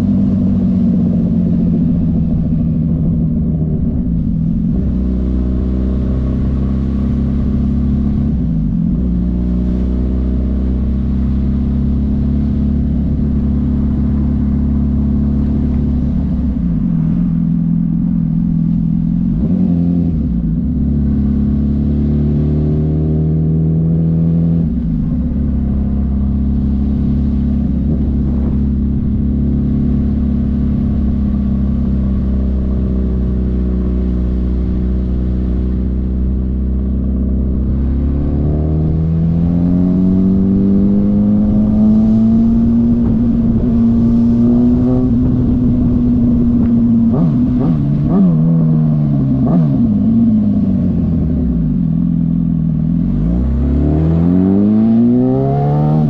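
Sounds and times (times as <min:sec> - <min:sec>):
loud motorcycle engine: 0:00.0 - 0:56.0.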